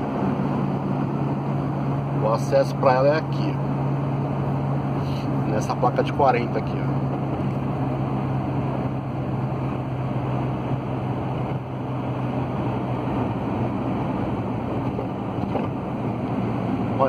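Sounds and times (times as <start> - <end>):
van engine and road noise: 0.0 - 17.0.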